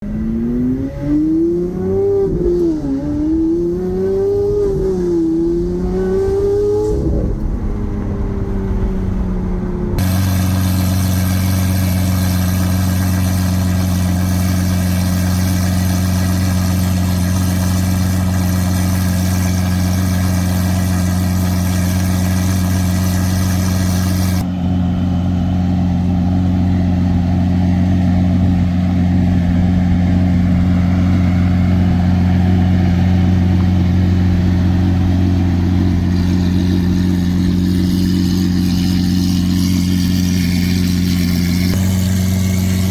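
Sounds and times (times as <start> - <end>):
sports car engine revving: 0.0 - 42.9
steady engine drone: 0.0 - 42.9.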